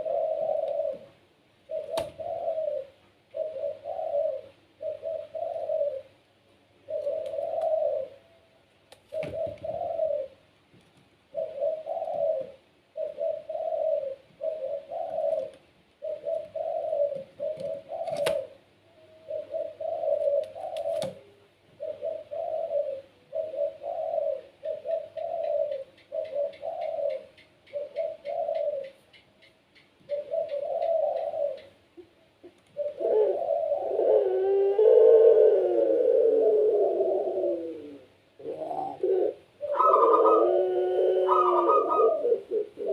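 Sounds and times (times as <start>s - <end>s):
dove cooing: 0.0s - 10.5s, 11.3s - 29.3s, 30.0s - 42.9s.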